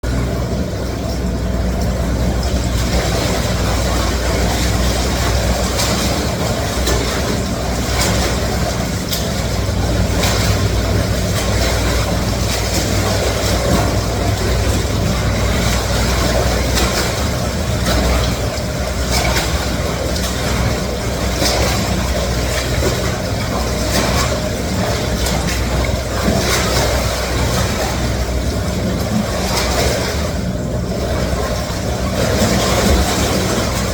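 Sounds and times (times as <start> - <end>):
low motor hum: 0.0 - 33.9
rushing churning water: 0.0 - 33.9
splashing from swimming strokes: 0.0 - 33.9.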